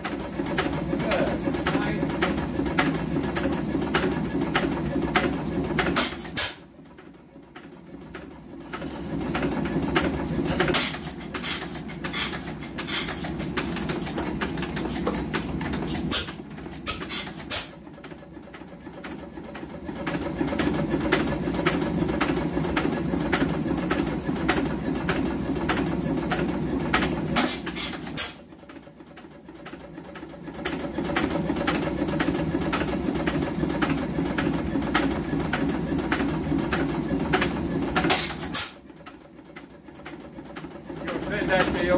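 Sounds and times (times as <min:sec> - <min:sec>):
old stationary engine clattering: 0:00.0 - 0:41.9.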